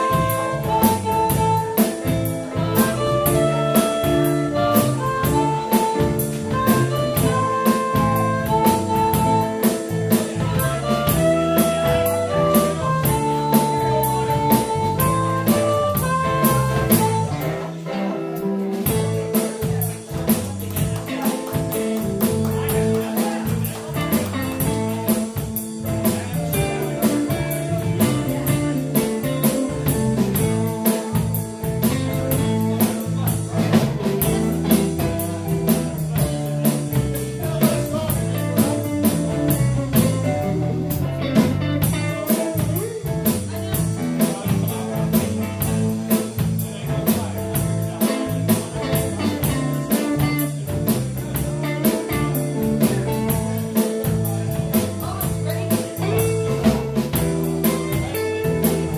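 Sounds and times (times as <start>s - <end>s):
steady cymbal beat: 0.0s - 17.7s, 18.7s - 58.9s
live blues band playing: 0.0s - 58.9s.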